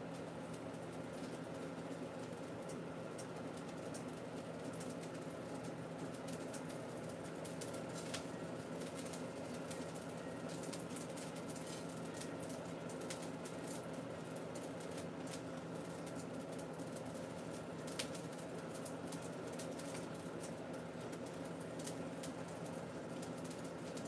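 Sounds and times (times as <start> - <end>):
food sizzling in a frying pan: 0.6 - 24.0.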